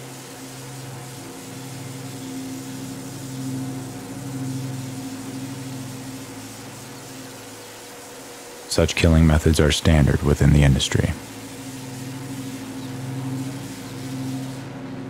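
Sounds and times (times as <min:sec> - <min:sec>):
background hiss: 0:00.0 - 0:15.0
machinery electric hum: 0:00.0 - 0:15.0.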